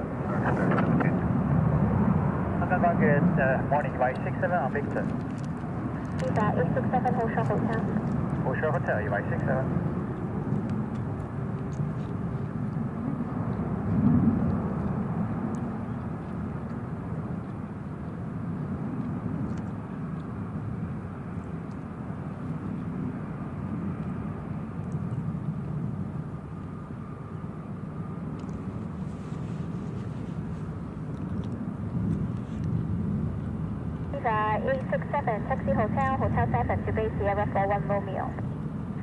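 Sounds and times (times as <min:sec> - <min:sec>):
distant jet engines rumbling: 0:00.0 - 0:39.0.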